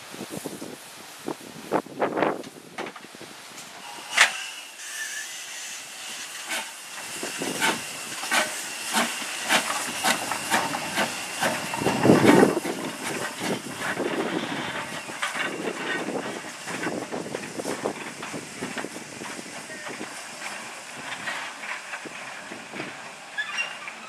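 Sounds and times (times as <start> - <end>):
steam hissing: 3.2 - 24.0
loud steam blast: 3.5 - 24.0
steam locomotive chuffing: 3.7 - 24.0.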